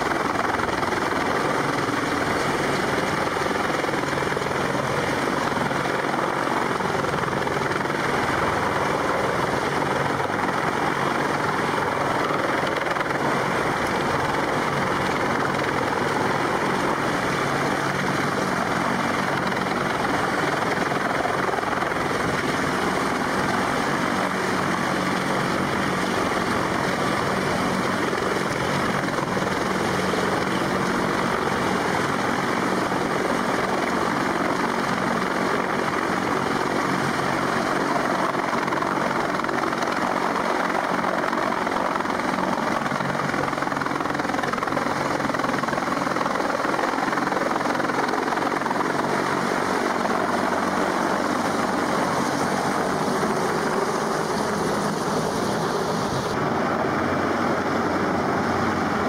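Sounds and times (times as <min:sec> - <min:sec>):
helicopter rotor hovering: 0:00.0 - 0:59.0.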